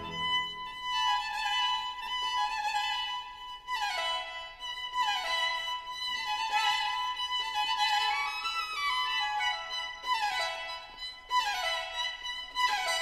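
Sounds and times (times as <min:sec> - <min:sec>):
violin music with sliding phrases: 0:00.0 - 0:13.0.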